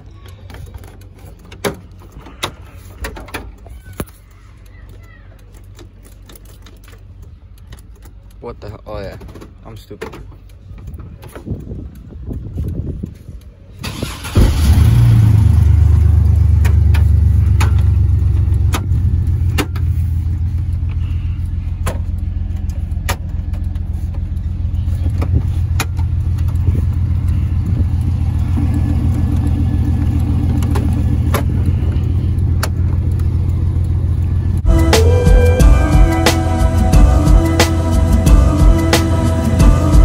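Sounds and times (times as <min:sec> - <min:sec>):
truck engine starting and idling: 0:00.0 - 0:40.0.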